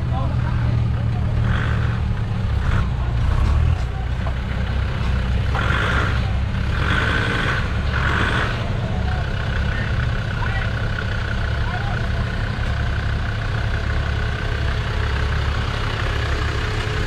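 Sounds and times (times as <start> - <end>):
engine rumbling at low revs: 0.0 - 17.0.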